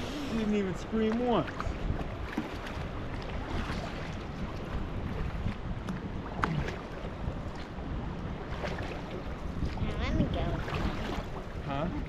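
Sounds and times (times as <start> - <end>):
paddle splashes and drips: 0.0 - 12.0
wind noise on microphone: 0.0 - 12.0.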